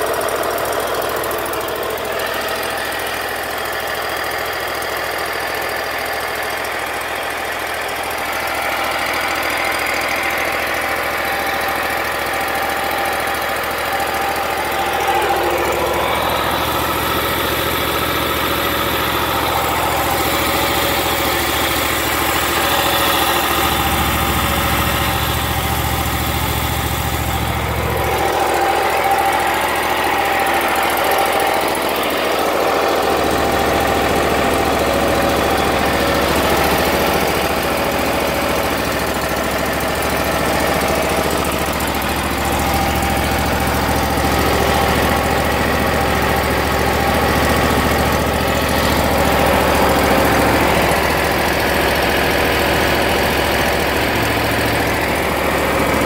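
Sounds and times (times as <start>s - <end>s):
mower engine idling: 0.0s - 56.0s.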